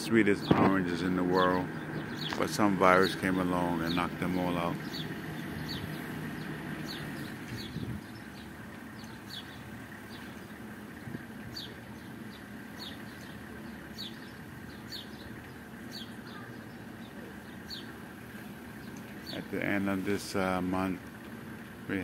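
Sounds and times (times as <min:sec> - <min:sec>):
small birds chirping: 0:00.0 - 0:22.0
steady background hum: 0:00.0 - 0:22.0
vehicle engine rumble: 0:00.0 - 0:22.0.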